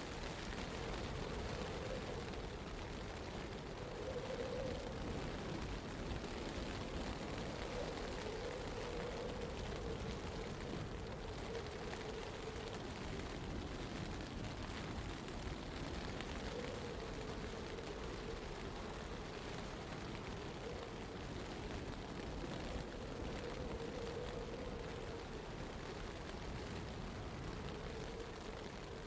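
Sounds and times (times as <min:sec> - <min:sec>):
wind and blowing snow: 0:00.0 - 0:29.0.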